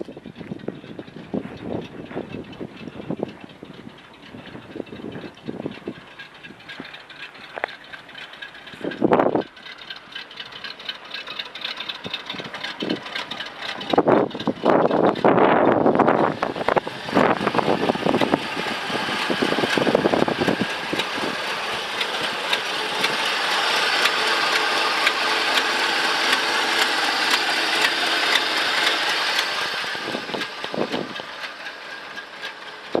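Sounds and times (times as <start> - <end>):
truck engine running: 0.0 - 33.0.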